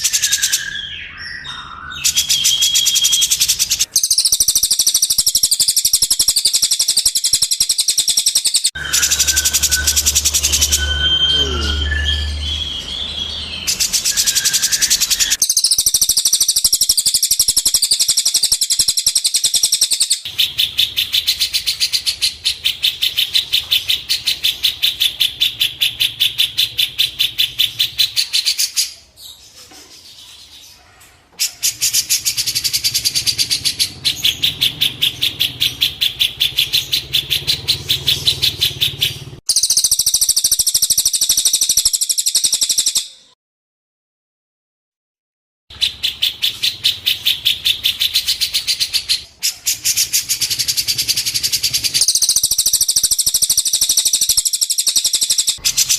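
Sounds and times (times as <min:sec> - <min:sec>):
songbird chattering: 0:00.0 - 0:30.8, 0:31.4 - 0:43.3, 0:45.7 - 0:55.9.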